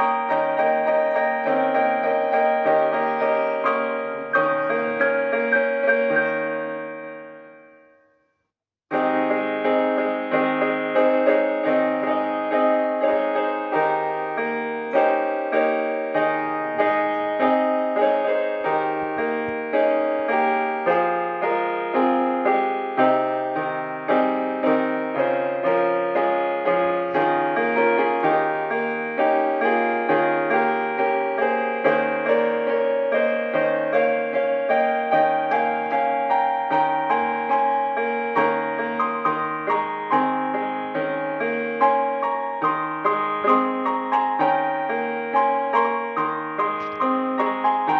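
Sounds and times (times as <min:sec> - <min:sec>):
solo piano piece: 0:00.0 - 0:08.1, 0:08.9 - 0:47.9.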